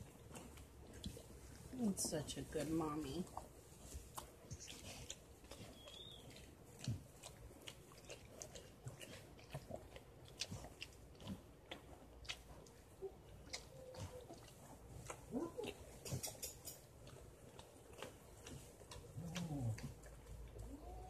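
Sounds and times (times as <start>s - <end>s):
dog licking puppy: 0.0s - 21.0s.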